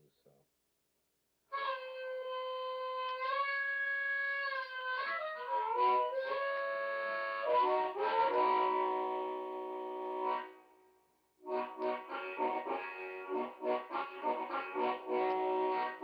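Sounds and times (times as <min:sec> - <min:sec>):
amplified blues harmonica: 0:01.5 - 0:10.6, 0:11.4 - 0:16.0.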